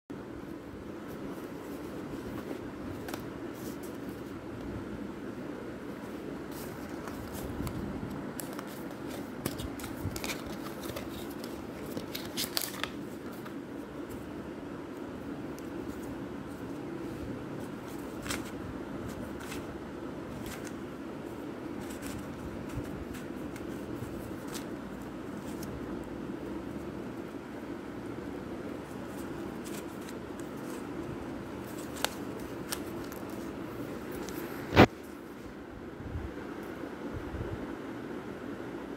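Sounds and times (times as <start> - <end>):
low background noise: 0.1 - 38.9
steady low hum: 0.1 - 38.9.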